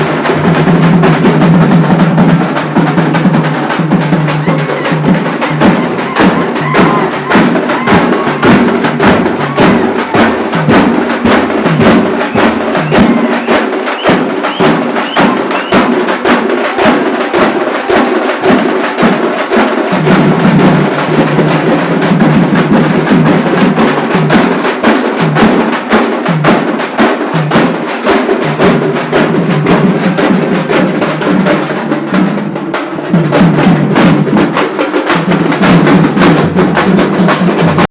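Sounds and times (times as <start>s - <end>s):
festival drums beating fast: 0.0s - 37.9s.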